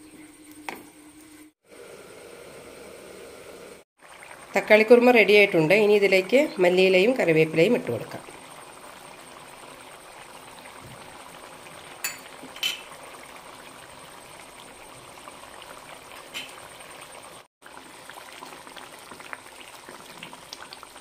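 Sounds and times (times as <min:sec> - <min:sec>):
curry bubbling in a pan: 0:01.7 - 0:21.0.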